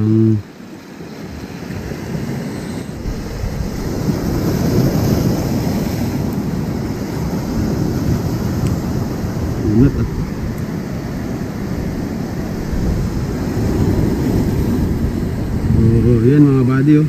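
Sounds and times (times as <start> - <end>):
sea waves: 0.0 - 17.0
wind buffeting microphone: 1.1 - 17.0.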